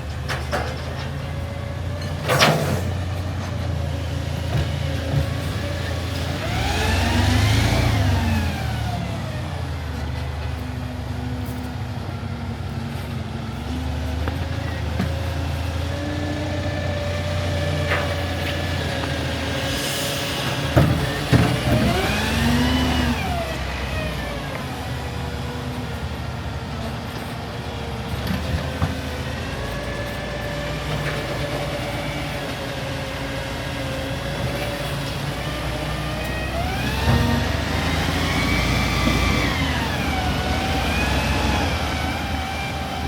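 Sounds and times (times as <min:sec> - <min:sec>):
diesel engine revving: 0:00.0 - 0:43.0.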